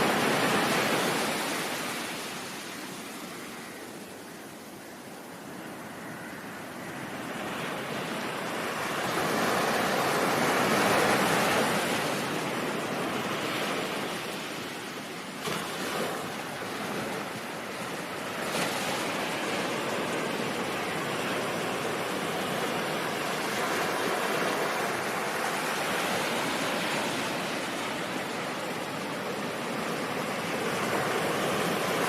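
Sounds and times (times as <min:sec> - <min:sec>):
ocean waves breaking: 0:00.0 - 0:04.4, 0:05.2 - 0:32.0.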